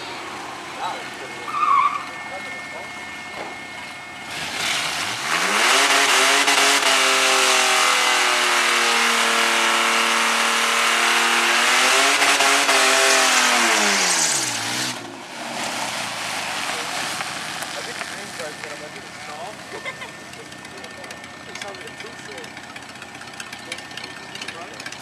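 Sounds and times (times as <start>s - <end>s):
car engine revving: 0.0s - 25.0s
spinning tyres hissing: 0.0s - 25.0s.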